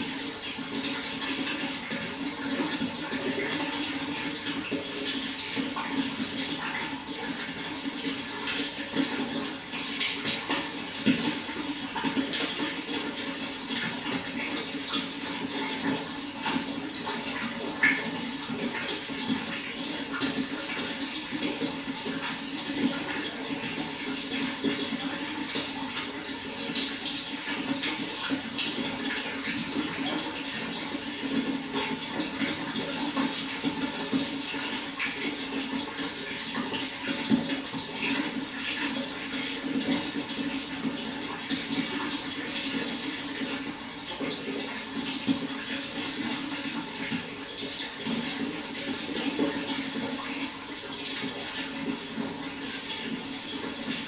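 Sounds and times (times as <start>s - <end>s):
water flowing with splashes: 0.0s - 54.0s.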